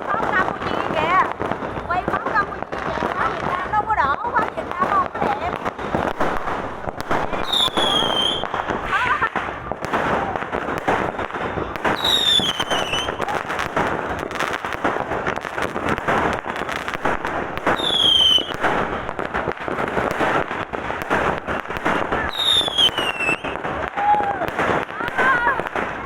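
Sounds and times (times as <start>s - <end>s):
fireworks crackling: 0.0s - 26.0s.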